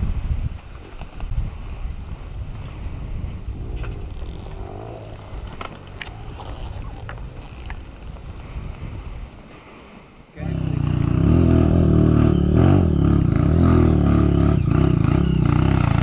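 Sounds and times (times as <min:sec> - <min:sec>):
dirt bike engine at low revs: 0:00.0 - 0:09.0, 0:10.4 - 0:16.0
wind on microphone: 0:00.0 - 0:16.0.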